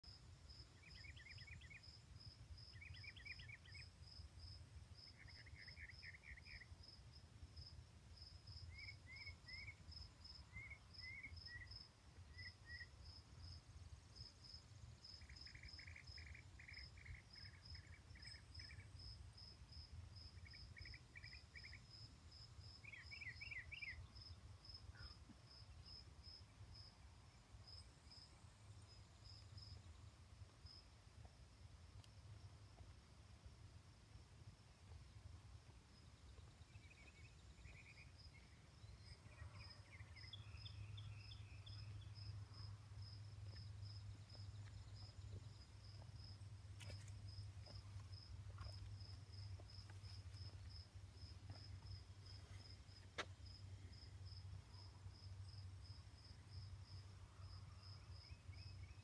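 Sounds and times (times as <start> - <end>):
insect chirping: 0.0 - 59.0.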